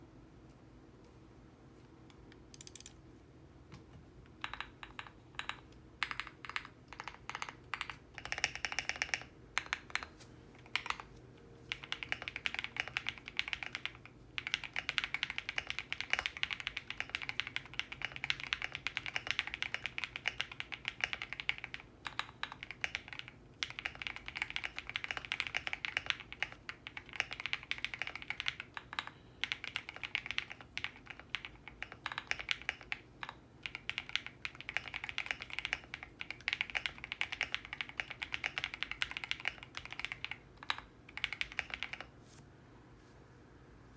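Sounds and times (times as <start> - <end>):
mechanical keyboard typing: 2.5 - 3.0, 4.3 - 11.1, 11.7 - 42.1.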